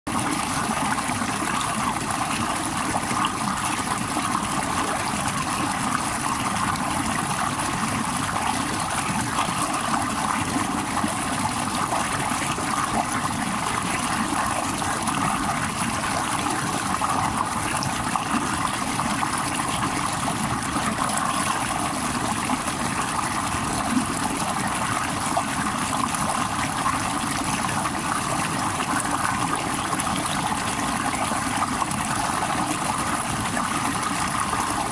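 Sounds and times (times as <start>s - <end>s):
stream splashing over rocks: 0.1s - 34.9s.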